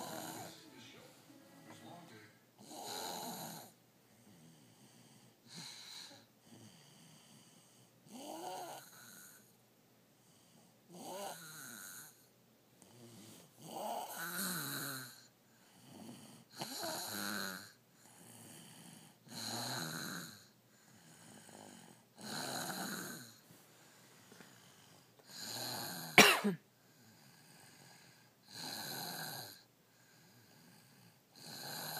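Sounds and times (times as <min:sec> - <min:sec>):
person snoring: 0:00.0 - 0:00.8, 0:02.6 - 0:09.5, 0:10.9 - 0:12.3, 0:12.9 - 0:23.4, 0:24.6 - 0:26.2, 0:27.0 - 0:31.9.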